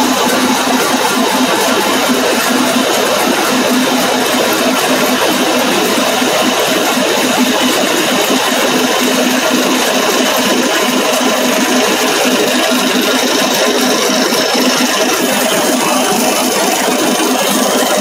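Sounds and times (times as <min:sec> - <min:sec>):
dense mechanical noise: 0:00.0 - 0:18.0
machinery hum: 0:00.0 - 0:18.0.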